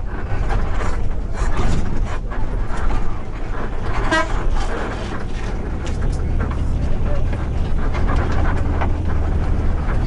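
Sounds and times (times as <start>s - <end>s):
bus engine and tyres rumbling: 0.0s - 10.0s.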